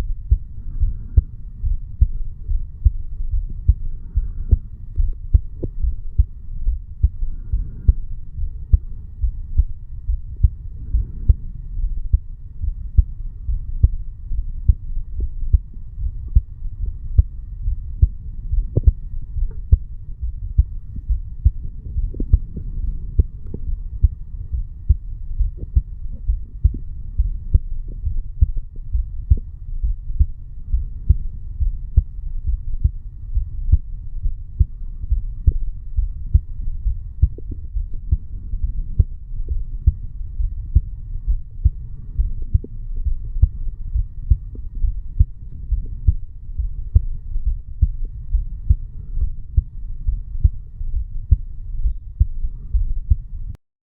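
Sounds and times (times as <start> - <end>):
low dull heartbeat: 0.0 - 53.6.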